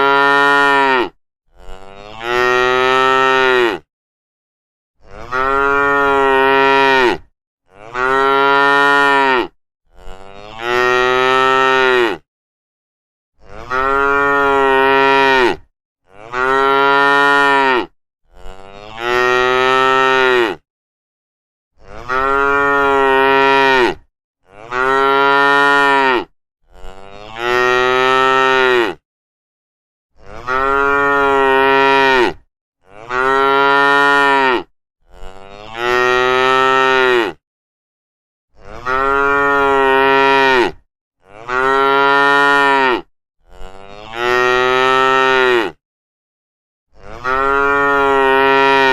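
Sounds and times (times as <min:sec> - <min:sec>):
cow mooing: 0:00.0 - 0:03.9, 0:05.0 - 0:12.2, 0:13.4 - 0:20.6, 0:21.8 - 0:29.0, 0:30.2 - 0:37.4, 0:38.6 - 0:45.8, 0:47.0 - 0:48.9.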